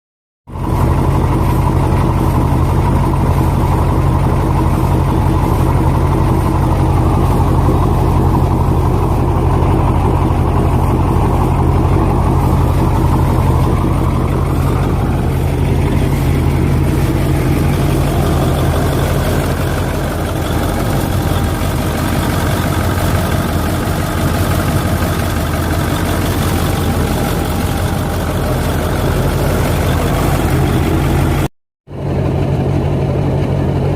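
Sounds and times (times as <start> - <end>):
truck engine idling: 0.5 - 33.9.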